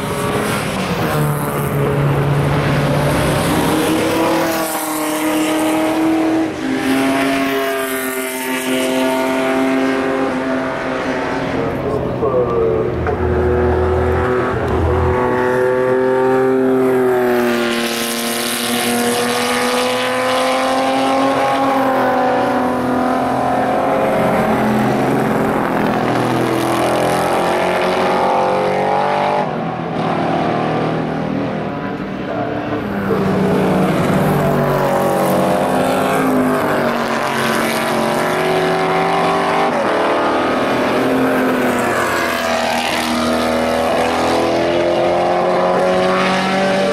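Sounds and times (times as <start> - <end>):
racing cars passing at speed: 0.0 - 46.9.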